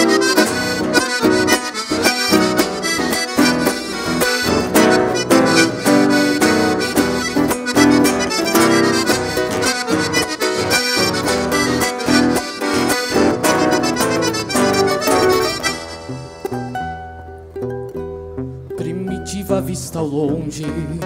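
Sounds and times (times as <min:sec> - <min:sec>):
piano accordion melody: 0:00.0 - 0:17.6
acoustic guitars: 0:00.0 - 0:21.0.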